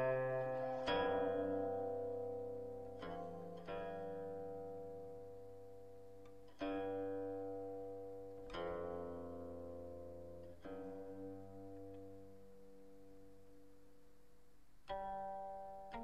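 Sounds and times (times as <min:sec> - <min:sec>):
plucked string instrument music: 0:00.0 - 0:16.0.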